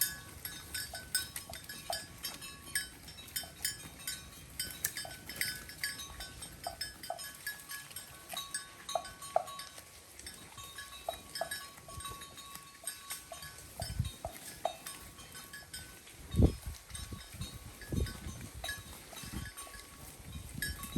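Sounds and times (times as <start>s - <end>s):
cattle bells clanking: 0.0s - 20.9s.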